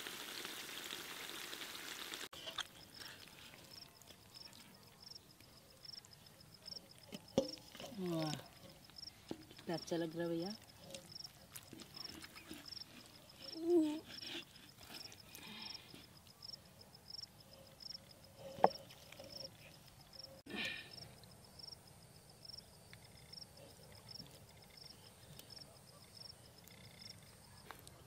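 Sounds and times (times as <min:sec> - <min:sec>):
insect chirping: 0:02.4 - 0:27.7.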